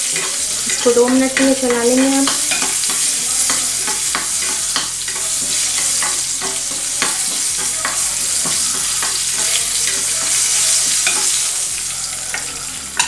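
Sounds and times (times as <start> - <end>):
chillies sizzling in hot oil: 0.0 - 13.0
spoon scraping a pan: 0.0 - 13.0.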